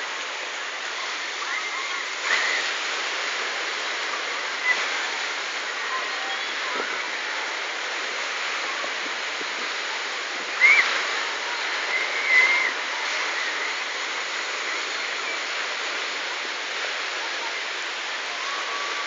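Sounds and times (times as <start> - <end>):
surf: 0.0 - 19.0.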